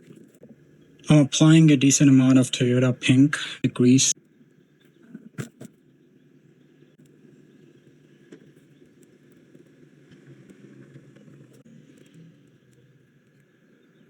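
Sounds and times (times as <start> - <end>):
low steady background: 0.0 - 14.0.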